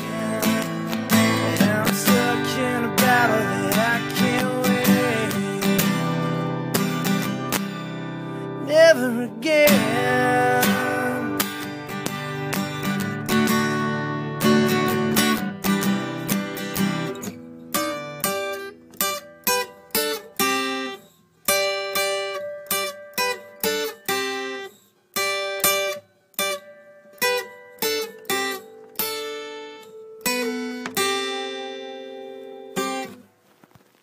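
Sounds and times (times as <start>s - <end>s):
acoustic guitar strumming chords: 0.0s - 33.7s.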